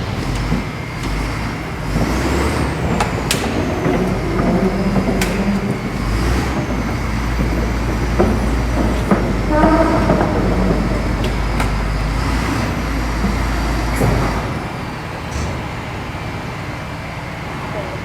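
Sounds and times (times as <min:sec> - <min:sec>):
heavy diesel machinery rumbling: 0:00.0 - 0:18.0.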